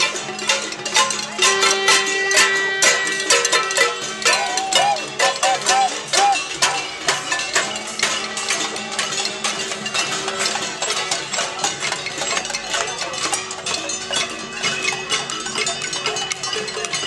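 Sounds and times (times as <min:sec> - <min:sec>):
crowd banging pots and pans: 0:00.0 - 0:17.0.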